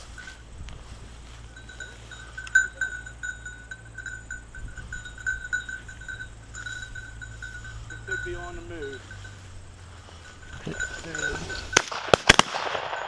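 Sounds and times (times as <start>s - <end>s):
dog collar bell jingling: 1.0s - 12.0s.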